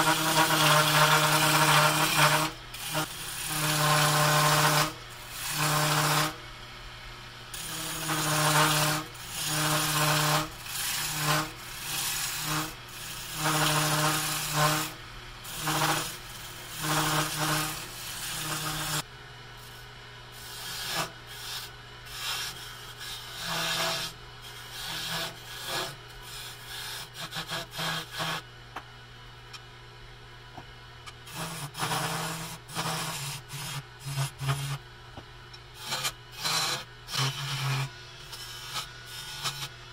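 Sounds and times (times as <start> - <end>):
turning tool scraping wood: 0.0 - 6.4, 7.5 - 19.0, 20.4 - 28.4, 31.2 - 34.8, 35.8 - 39.9
wood lathe humming: 0.0 - 6.4, 7.5 - 19.0, 20.4 - 28.4, 31.3 - 34.8, 35.8 - 39.9.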